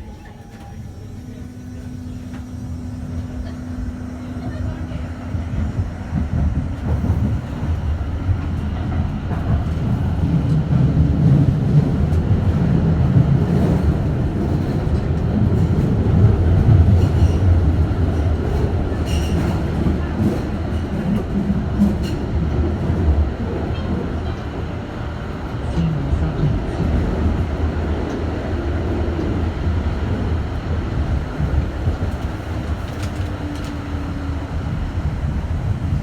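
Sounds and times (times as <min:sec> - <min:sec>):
tram wheels rumbling on rails: 0:00.0 - 0:36.0.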